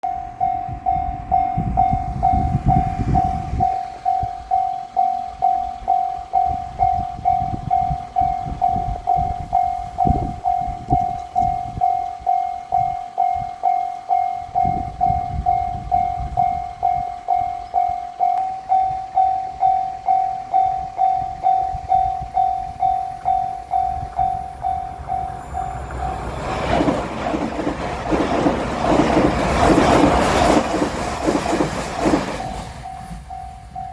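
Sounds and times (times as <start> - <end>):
railroad crossing bell clanging: 0.0 - 33.9
train rumbling past: 0.1 - 11.9, 14.4 - 33.9.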